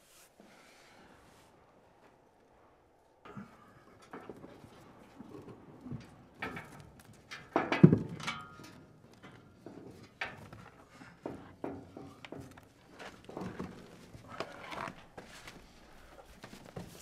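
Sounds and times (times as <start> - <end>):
people clambering over rough ground: 1.9 - 17.0.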